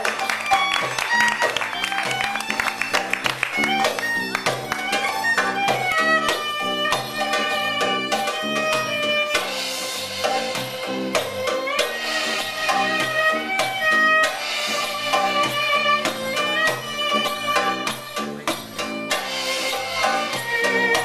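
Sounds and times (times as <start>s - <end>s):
hand drum beats: 0.0s - 21.0s
violin melody: 0.0s - 21.0s.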